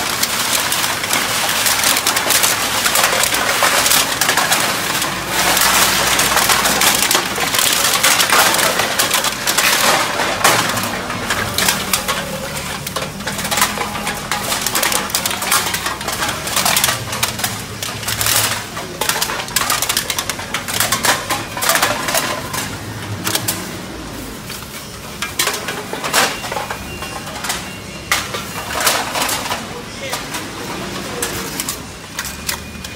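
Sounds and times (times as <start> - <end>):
cans clattering into metal hopper: 0.0 - 32.9.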